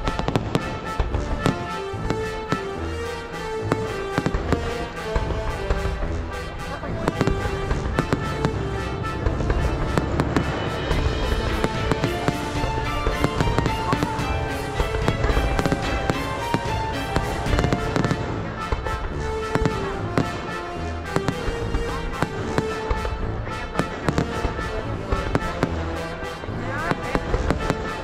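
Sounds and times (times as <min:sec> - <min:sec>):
fireworks bangs and cracks: 0:00.0 - 0:28.0
music with held notes: 0:00.0 - 0:28.0.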